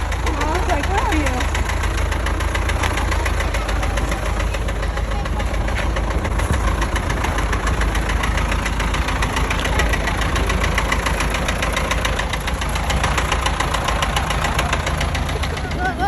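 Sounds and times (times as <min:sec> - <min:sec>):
engine running with rapid knock: 0:00.0 - 0:16.0.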